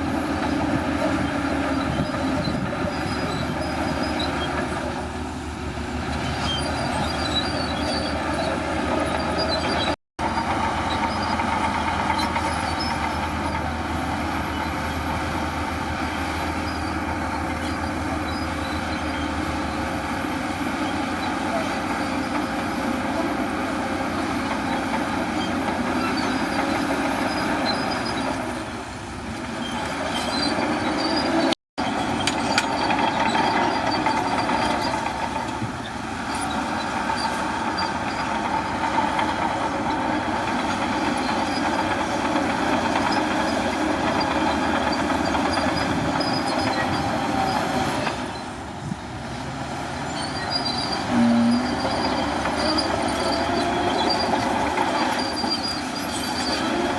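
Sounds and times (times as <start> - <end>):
bulldozer diesel engine running: 0.0 - 56.9
steel tracks clanking and squealing: 0.0 - 56.9.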